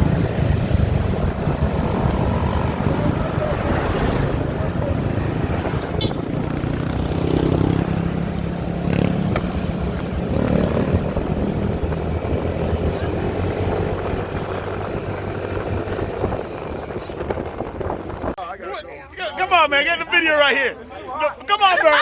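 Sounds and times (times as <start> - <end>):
motorcycle engines running: 0.0 - 18.4.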